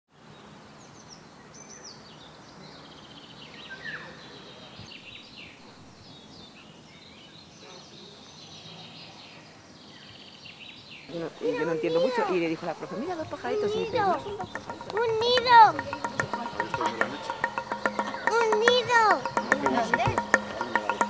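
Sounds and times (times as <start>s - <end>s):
steady background hiss: 0.1s - 21.0s
wild birds singing: 0.1s - 21.0s.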